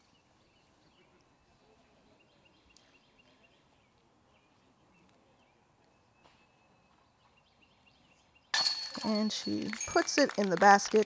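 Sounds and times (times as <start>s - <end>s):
small birds chirping faintly: 0.0s - 9.5s.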